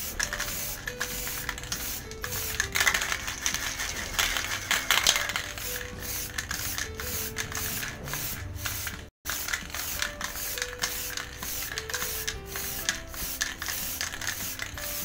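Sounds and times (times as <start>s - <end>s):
aerosol spray can hissing: 0.0s - 15.0s.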